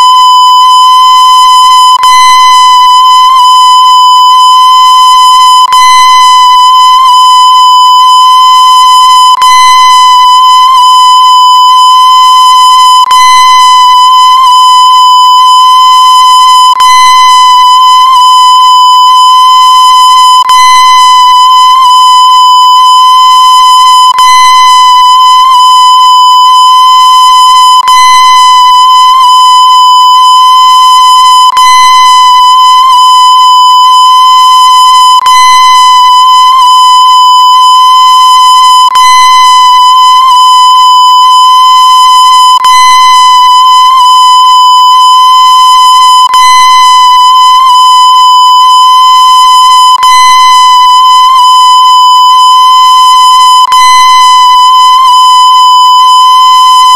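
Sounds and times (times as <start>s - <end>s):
high-pitched electronic beep: 0.0s - 56.9s.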